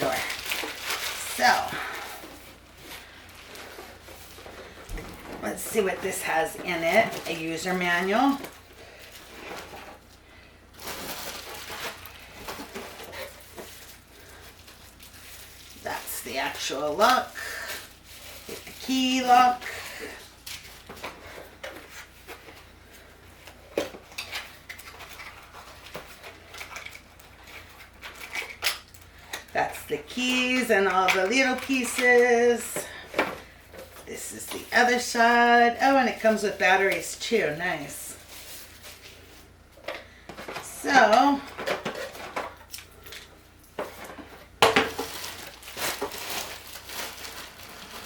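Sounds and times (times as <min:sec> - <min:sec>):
packaging rustling: 0:00.0 - 0:48.0.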